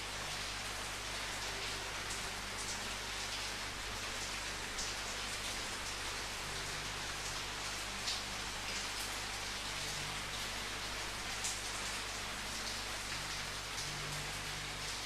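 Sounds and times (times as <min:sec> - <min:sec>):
scattered raindrops: 0:00.0 - 0:15.0
steady rain falling: 0:00.0 - 0:15.0.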